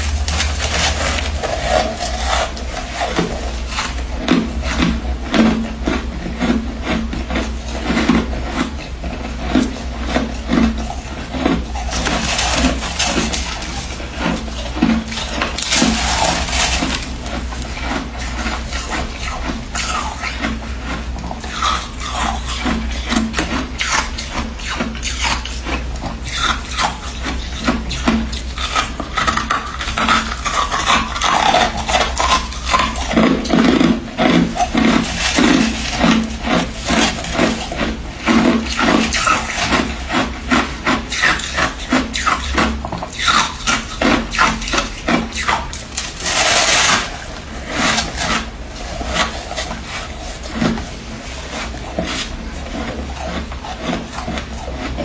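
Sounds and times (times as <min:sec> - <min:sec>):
frost being scraped and crunched: 0:00.0 - 0:55.0
steady low hum: 0:00.0 - 0:55.0.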